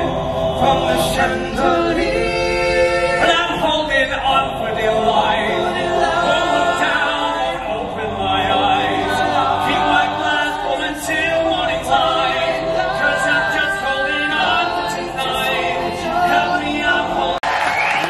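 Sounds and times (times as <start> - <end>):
men singing in harmony: 0.0 - 17.4.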